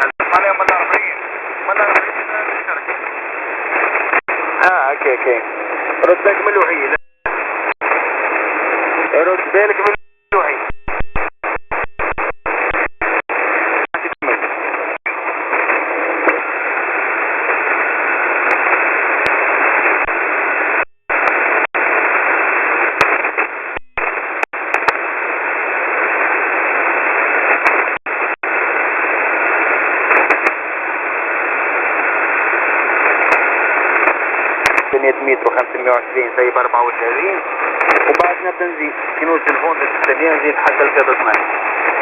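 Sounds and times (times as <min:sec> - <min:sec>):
shortwave radio hiss: 0:00.0 - 0:42.0.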